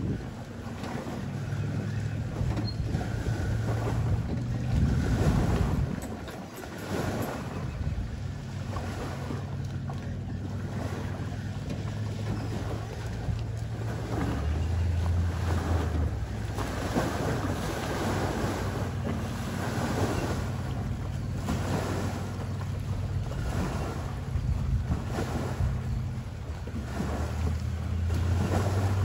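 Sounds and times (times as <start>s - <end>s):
boat motor droning: 0.0s - 29.0s
water lapping: 0.0s - 29.0s
wind buffeting microphone: 0.0s - 29.0s.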